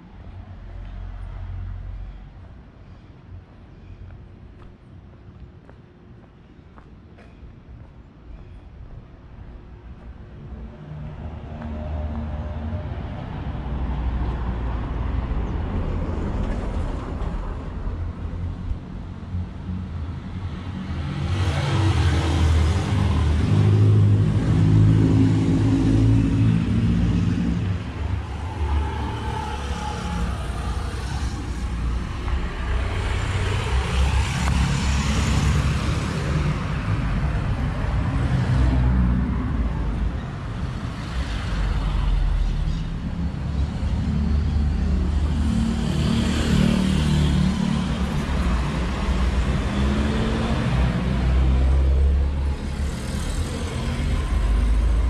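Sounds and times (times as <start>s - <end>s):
vehicles driving by: 0.0s - 55.0s.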